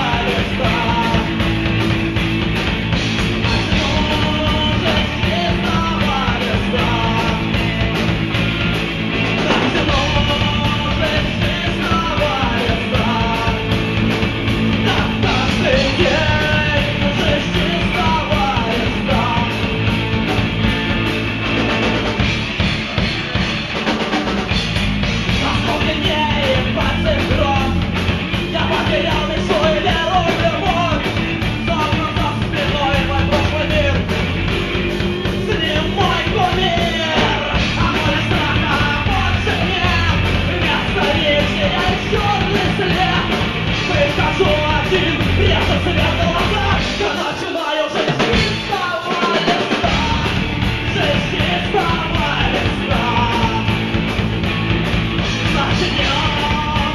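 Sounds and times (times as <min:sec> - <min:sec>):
man singing: 0:00.0 - 0:01.9, 0:03.1 - 0:08.3, 0:09.2 - 0:20.4, 0:25.2 - 0:54.1, 0:55.2 - 0:56.9
bass guitar: 0:00.0 - 0:56.9
drum kit: 0:00.0 - 0:56.9
electric guitar: 0:00.0 - 0:56.9.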